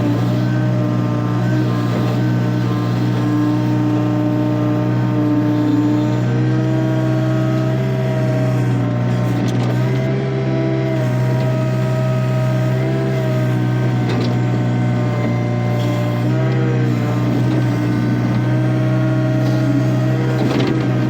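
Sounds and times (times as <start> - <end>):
excavator diesel engine: 0.0 - 21.0.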